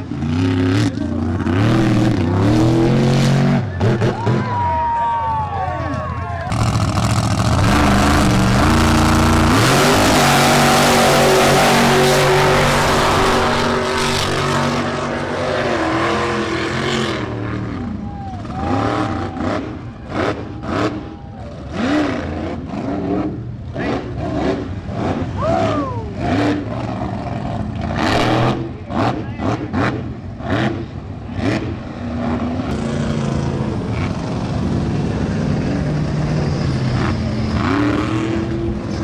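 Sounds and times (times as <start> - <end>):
truck engine revving: 0.0 - 4.7, 6.4 - 39.0.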